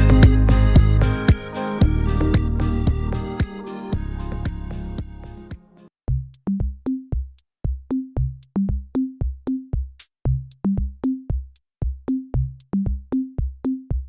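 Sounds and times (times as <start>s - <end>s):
electronic drum machine beat: 0.0s - 14.0s.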